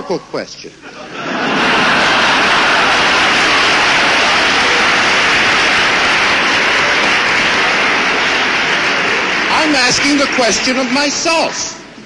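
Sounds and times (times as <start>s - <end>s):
large audience applauding: 1.4s - 11.8s.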